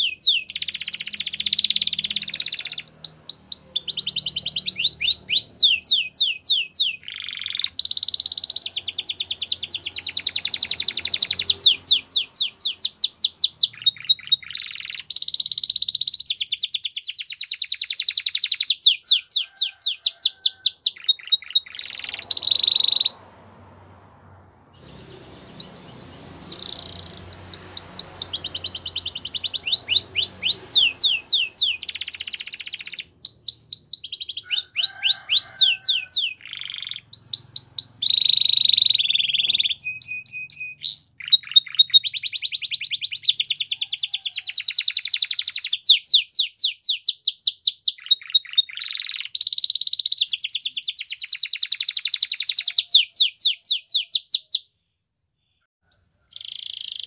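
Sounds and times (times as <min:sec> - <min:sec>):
canary singing: 0:00.0 - 0:54.7, 0:55.5 - 0:57.0.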